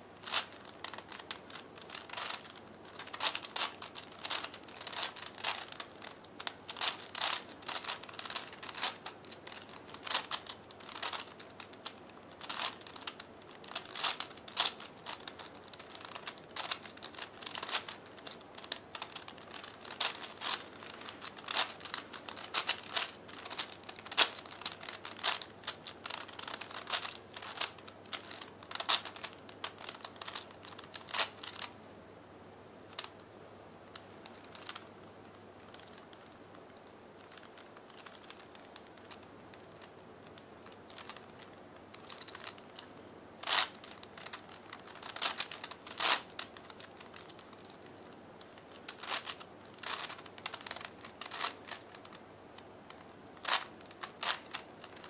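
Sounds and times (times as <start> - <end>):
puzzle cube layers clicking: 0.2 - 31.7, 37.2 - 52.2, 52.9 - 55.0.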